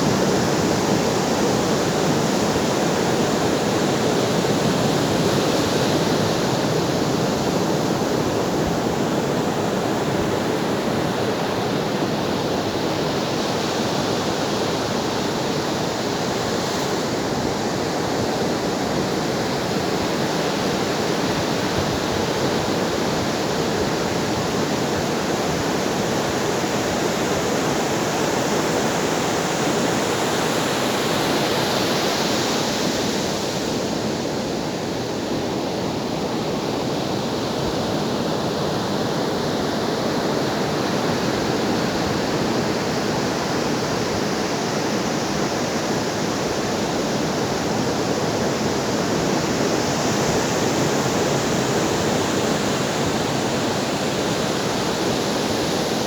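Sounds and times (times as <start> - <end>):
ocean waves washing onto shore: 0.0 - 56.0.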